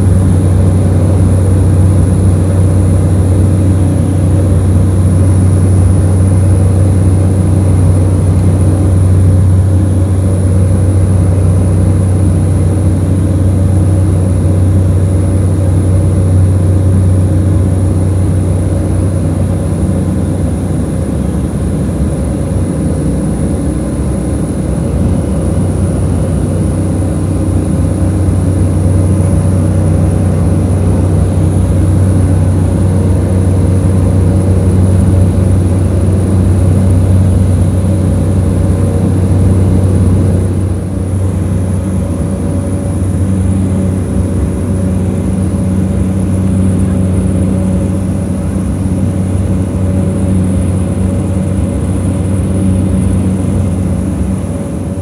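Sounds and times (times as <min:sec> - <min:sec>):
turboprop engine drone: 0:00.0 - 0:55.0.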